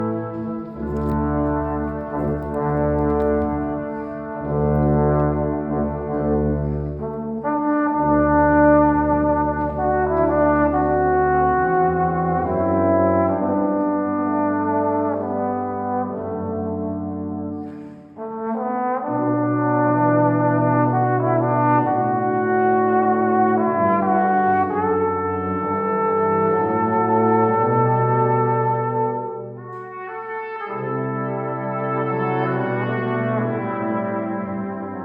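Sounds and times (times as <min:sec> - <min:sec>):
brass quintet playing chords: 0:00.0 - 0:35.0.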